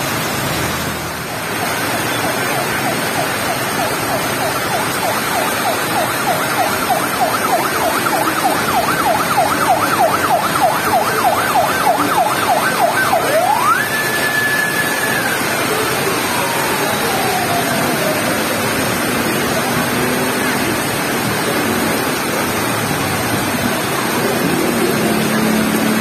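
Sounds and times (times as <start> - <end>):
electronic vehicle siren: 1.7 - 26.0.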